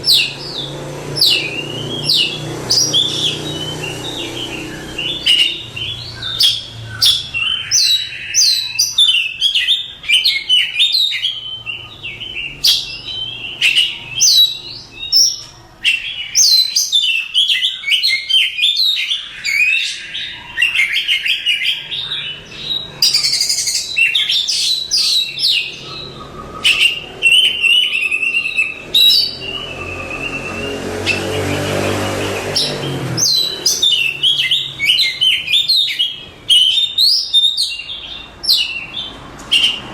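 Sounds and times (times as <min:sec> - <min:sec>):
bird singing whistles and chatters: 0:00.0 - 0:39.8.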